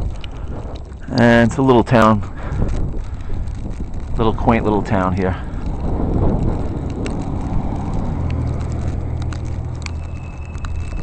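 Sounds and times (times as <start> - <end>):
sharp crackling clicks: 0.0 - 11.0
wind buffeting microphone: 0.0 - 11.0.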